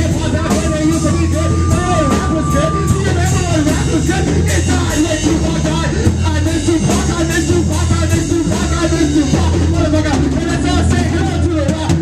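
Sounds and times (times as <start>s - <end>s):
bass and electric guitar: 0.0s - 12.0s
drums: 0.0s - 12.0s
person singing: 0.0s - 12.0s.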